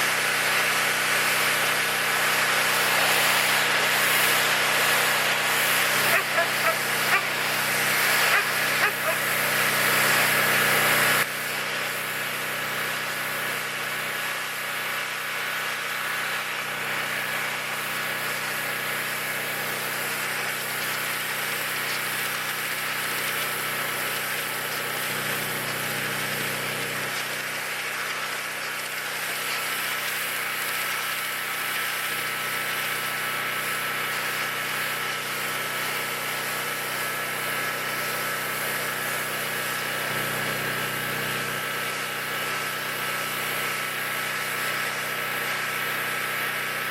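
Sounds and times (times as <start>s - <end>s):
high-pressure water spray hiss: 0.0s - 46.9s
pressure washer engine droning: 0.0s - 46.9s.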